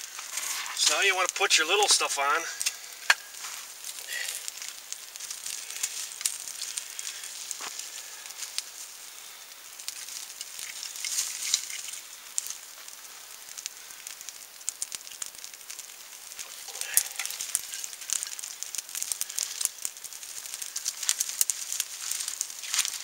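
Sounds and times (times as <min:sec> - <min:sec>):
dry twigs rustling: 0:00.0 - 0:23.0
fire hissing and crackling: 0:00.0 - 0:23.0.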